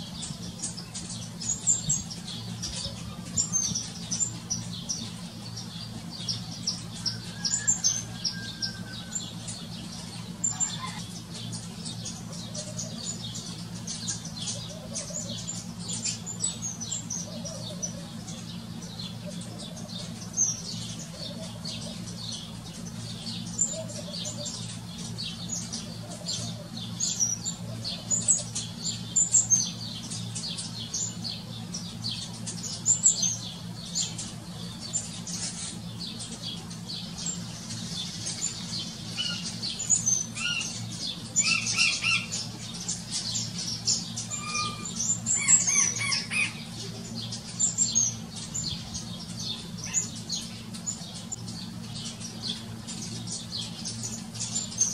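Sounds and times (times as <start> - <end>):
sparrows chirping: 0.0 - 54.9
steady low hum: 0.0 - 54.9.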